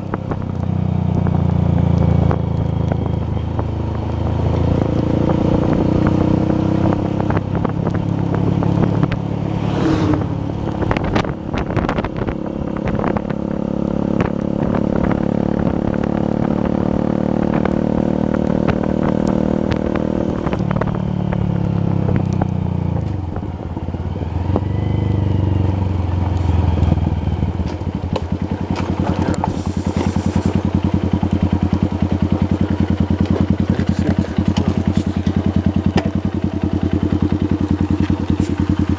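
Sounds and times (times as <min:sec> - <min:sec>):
motorcycle engine running and idling: 0:00.0 - 0:38.9.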